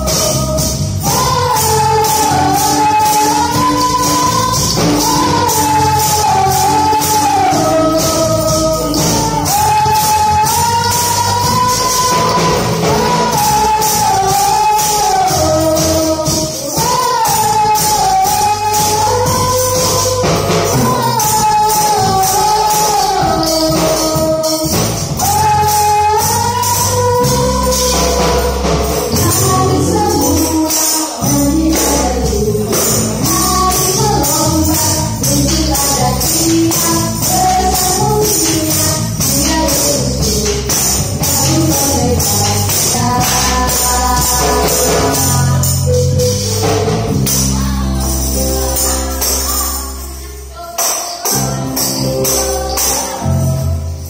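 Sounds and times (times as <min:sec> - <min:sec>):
tambourines jingling: 0:00.0 - 0:54.0
upbeat worship song with singing: 0:00.0 - 0:54.0.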